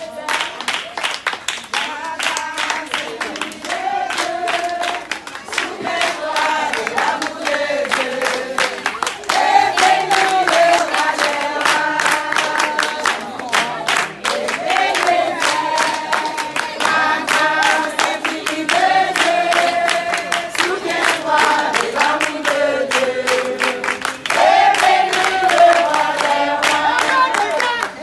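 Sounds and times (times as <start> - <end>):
group of voices singing: 0.0 - 0.9, 1.7 - 28.0
rhythmic hand-clapping: 0.0 - 28.0.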